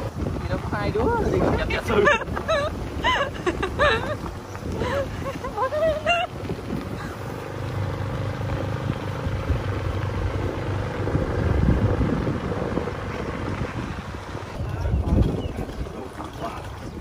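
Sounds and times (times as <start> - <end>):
vehicle engine rumbling: 0.0 - 17.0
wind on microphone: 0.0 - 17.0.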